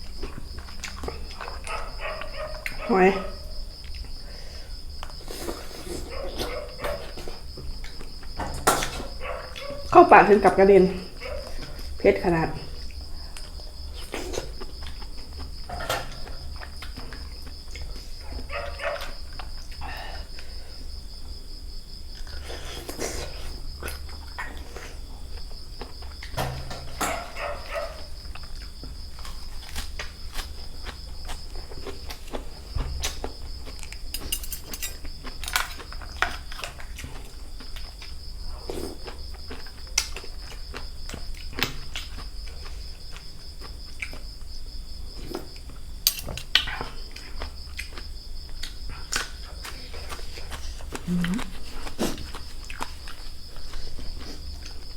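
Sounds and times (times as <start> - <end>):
chewing and crunching food: 0.0 - 54.9
insects chirping: 0.0 - 54.9.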